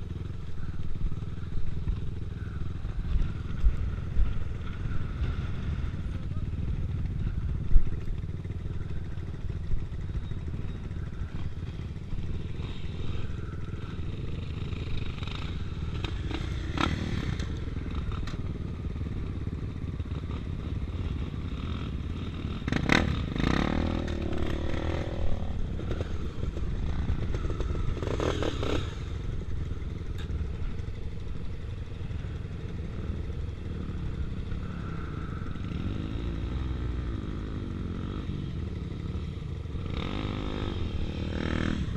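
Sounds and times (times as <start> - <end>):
motorcycle engines running: 0.0 - 41.9
steady low rumble: 0.0 - 41.9.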